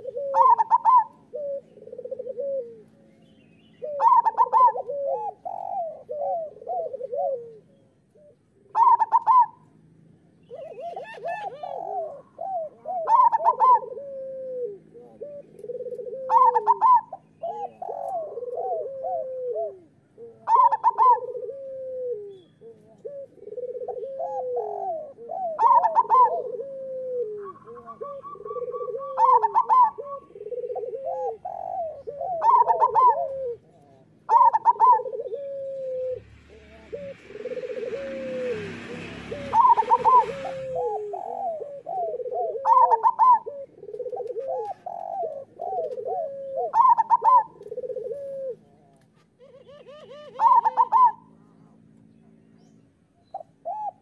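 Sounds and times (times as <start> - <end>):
dove cooing: 0.0 - 3.1, 3.7 - 51.8, 53.2 - 54.0.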